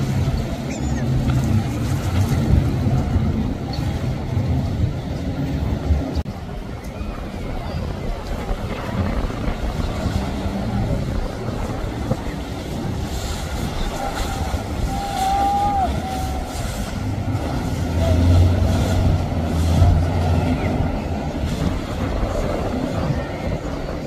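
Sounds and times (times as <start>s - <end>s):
motorboat engine drone: 0.0s - 24.0s
water rushing off hull: 0.0s - 24.0s
wind: 0.0s - 24.0s.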